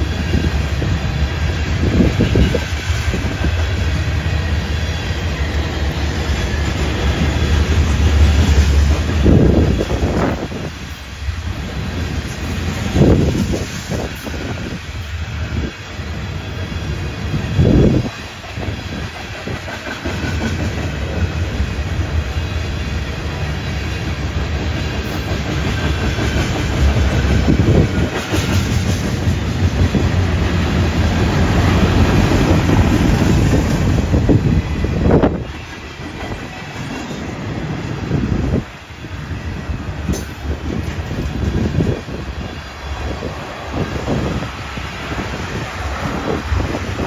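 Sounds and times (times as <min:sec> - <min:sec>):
steel wheels rumbling on rails: 0:00.0 - 0:47.0.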